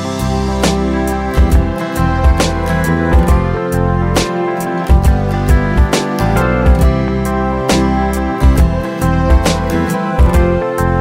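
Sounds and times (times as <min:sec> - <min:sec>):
guitar instrumental with drum beat: 0:00.0 - 0:11.0.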